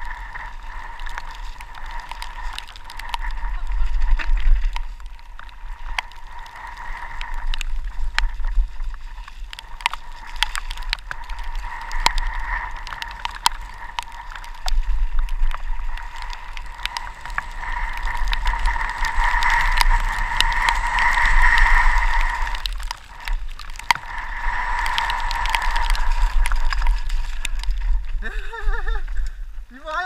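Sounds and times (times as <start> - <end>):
bike tyres and frame rattling: 0.0 - 29.7
wind rumble on microphone: 0.0 - 30.0.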